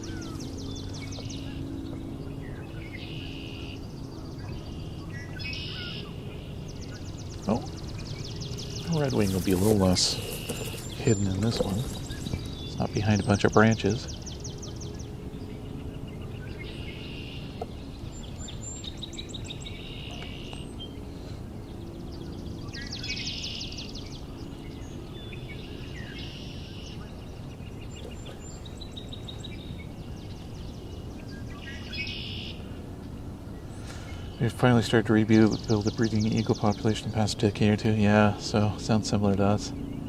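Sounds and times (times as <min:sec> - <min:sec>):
blackbirds singing buzzy trills: 0:00.0 - 0:40.0.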